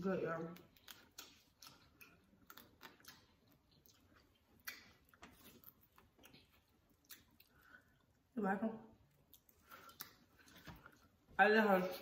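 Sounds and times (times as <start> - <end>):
chewing: 0.4 - 8.3, 9.0 - 11.2.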